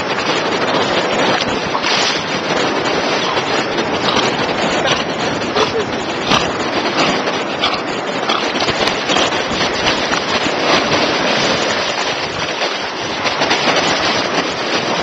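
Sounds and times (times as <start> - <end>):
waves splashing in shallows: 0.0 - 15.0.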